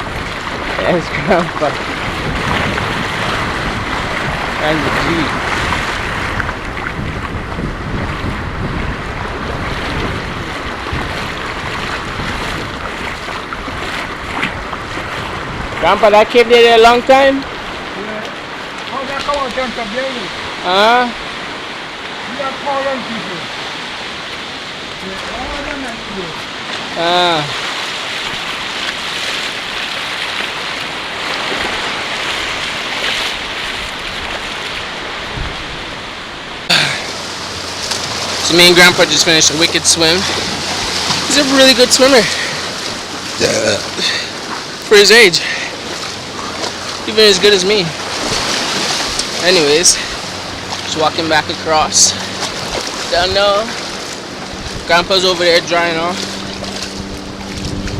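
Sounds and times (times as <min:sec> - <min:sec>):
sea surf washing on beach: 0:00.0 - 0:57.9
wind buffeting microphone: 0:00.0 - 0:57.9.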